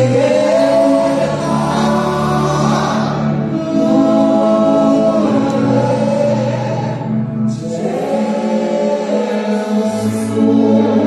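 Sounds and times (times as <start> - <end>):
electronic keyboard chords: 0.0 - 11.0
man singing: 0.0 - 11.0
sustained bass: 0.0 - 11.0.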